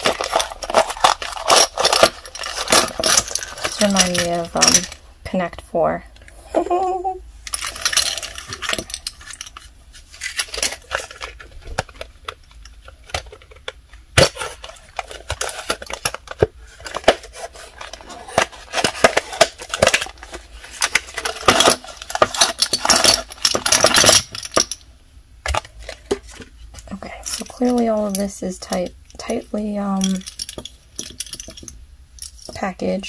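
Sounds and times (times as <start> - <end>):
plastic jars clicking and clattering: 0.0 - 5.0, 7.5 - 24.8, 25.4 - 29.4, 30.0 - 32.6.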